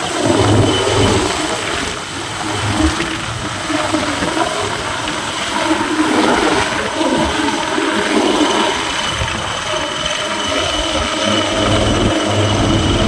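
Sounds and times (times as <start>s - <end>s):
helicopter engine and rotor: 0.0s - 13.0s.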